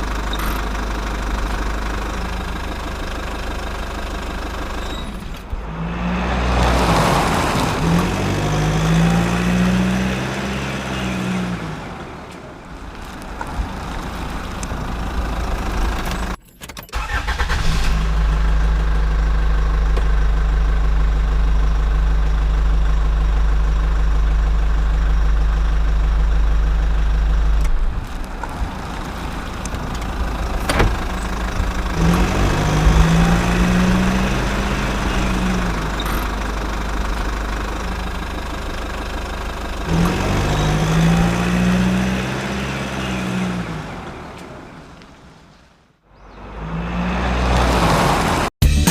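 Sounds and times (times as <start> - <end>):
vehicle engine droning: 0.0 - 48.9.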